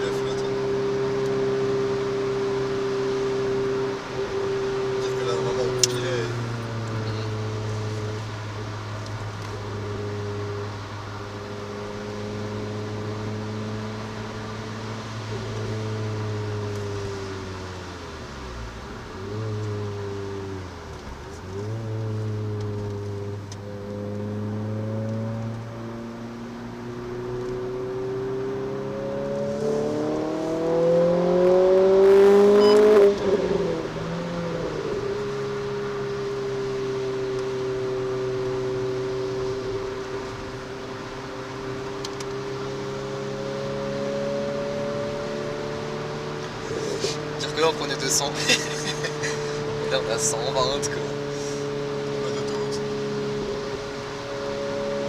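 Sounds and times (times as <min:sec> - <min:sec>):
car engine at steady revs: 0:00.0 - 0:55.0
tyre and road noise: 0:00.0 - 0:55.0.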